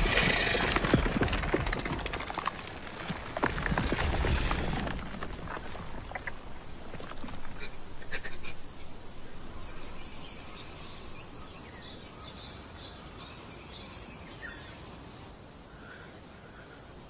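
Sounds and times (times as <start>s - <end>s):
birds chirping: 0.0s - 16.7s.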